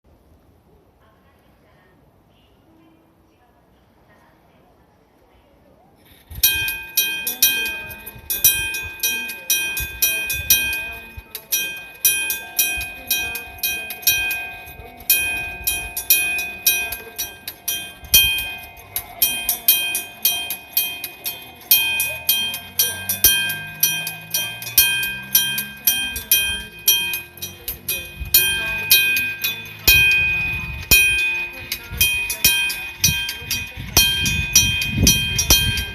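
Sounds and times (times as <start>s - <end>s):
crossing bell gong ringing: 6.4s - 35.9s.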